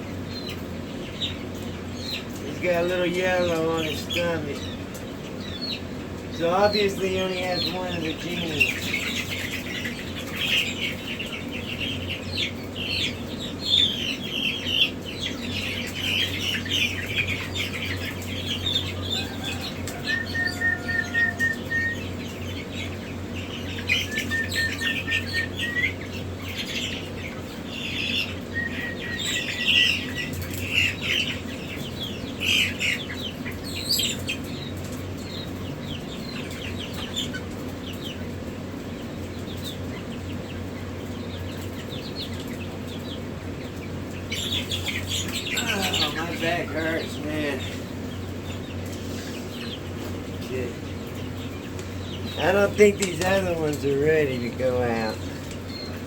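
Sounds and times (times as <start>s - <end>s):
chicks peeping and chirping: 0.0s - 56.0s
steady low hum: 0.0s - 56.0s.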